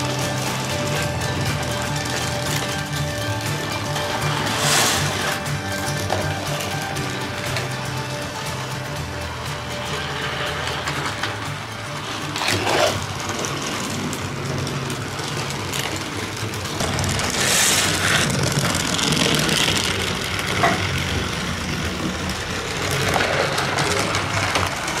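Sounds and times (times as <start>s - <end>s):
toy train motor humming: 0.0s - 25.0s.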